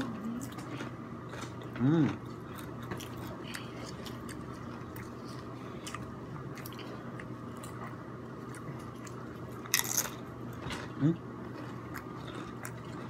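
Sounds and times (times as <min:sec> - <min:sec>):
faint steady hum: 0:00.0 - 0:13.0
person chewing crunchy chips: 0:00.0 - 0:13.0.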